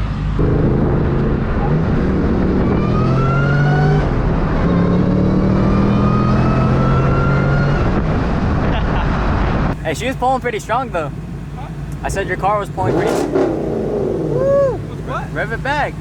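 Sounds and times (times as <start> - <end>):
car engine accelerating hard: 0.2 - 16.0.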